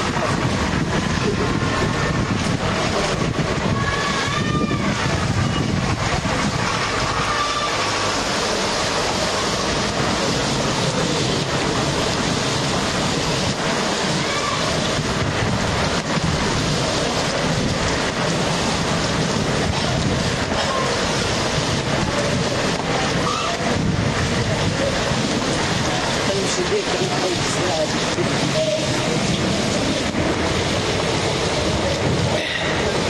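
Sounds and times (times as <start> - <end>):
heavy rain on street: 0.0 - 33.0
rainwater running along road: 0.0 - 33.0.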